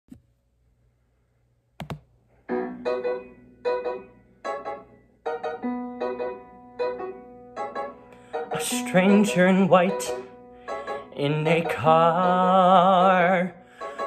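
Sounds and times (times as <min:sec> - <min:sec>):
piano chords: 0:02.4 - 0:14.0.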